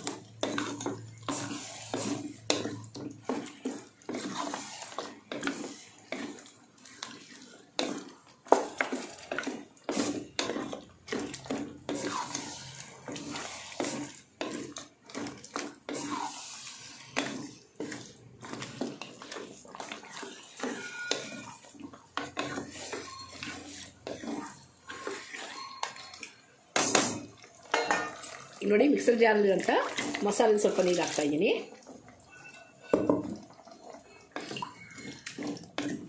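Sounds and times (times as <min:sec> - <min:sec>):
wooden spatula scraping metal pot: 0:00.0 - 0:36.0.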